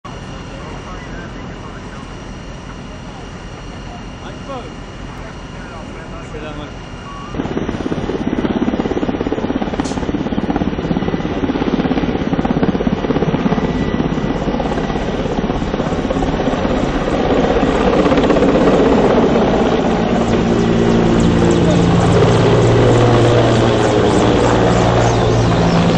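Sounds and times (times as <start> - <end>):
helicopter rotor chopping: 0.1 - 25.9.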